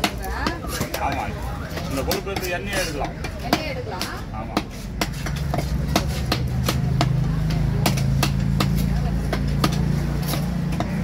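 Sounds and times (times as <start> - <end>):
knife chopping fish: 0.0 - 11.0
engine humming: 0.8 - 11.0.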